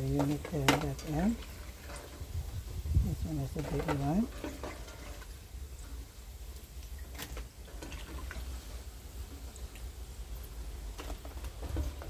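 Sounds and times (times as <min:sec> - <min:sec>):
frying oil crackling: 0:00.0 - 0:12.0.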